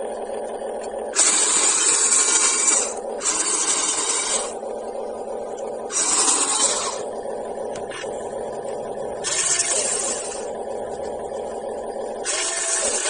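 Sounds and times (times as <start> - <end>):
rc car motor drone: 0.0 - 13.0
rough motor bursts accelerating: 0.0 - 13.0.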